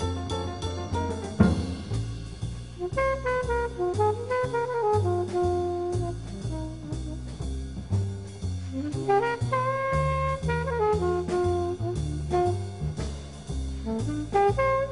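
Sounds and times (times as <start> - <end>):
instrumental tune: 0.0 - 14.9
rhythmic bass line: 0.0 - 14.9.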